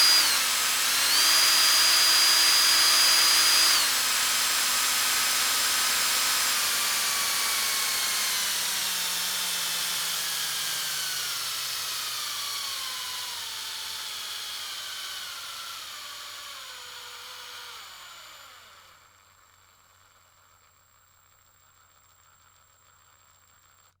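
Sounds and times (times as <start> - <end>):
power drill spinning down: 0.0 - 20.7.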